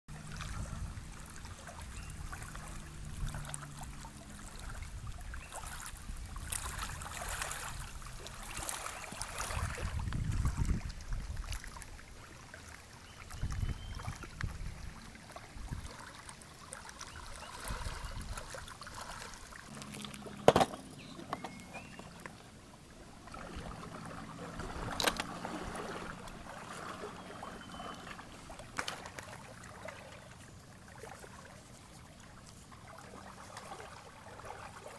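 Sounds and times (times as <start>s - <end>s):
small waves lapping shore: 0.1s - 34.9s.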